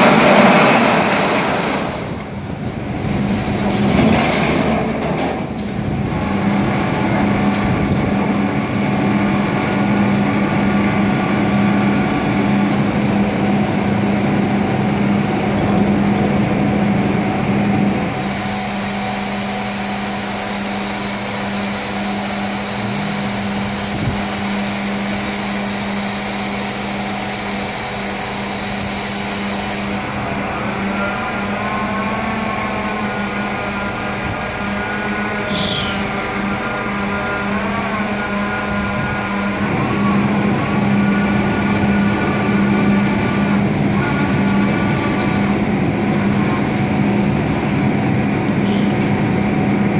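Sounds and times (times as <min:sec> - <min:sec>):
garbage truck lift and engine: 0:00.0 - 0:49.9
high whine of lift: 0:00.0 - 0:49.9.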